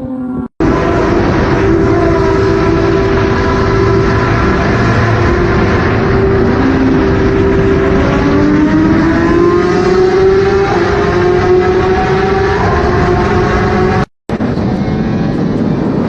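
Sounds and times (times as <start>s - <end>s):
engine running loudly: 0.5s - 16.0s
second engine revving up: 0.6s - 15.9s.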